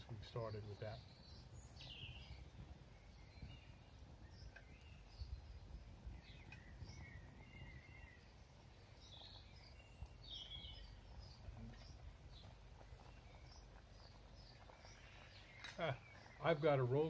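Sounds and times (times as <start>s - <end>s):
low outdoor rumble: 0.0s - 17.0s
faint bird chirps: 0.1s - 17.0s.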